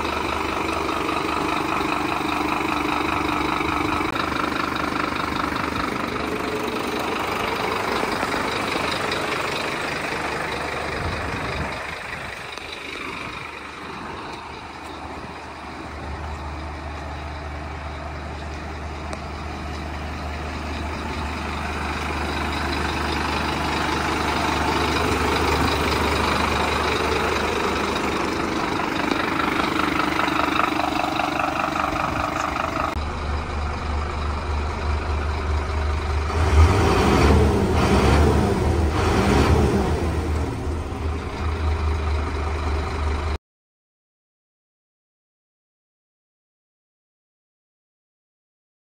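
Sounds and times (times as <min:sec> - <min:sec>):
engine hum inside cab: 0:00.0 - 0:43.4
truck diesel engine idling: 0:00.0 - 0:43.4.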